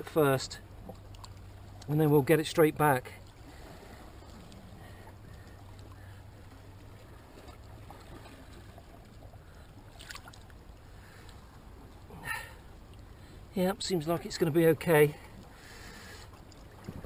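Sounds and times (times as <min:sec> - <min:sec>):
gentle water movement: 0:00.0 - 0:17.0
steady low hum: 0:00.0 - 0:17.0.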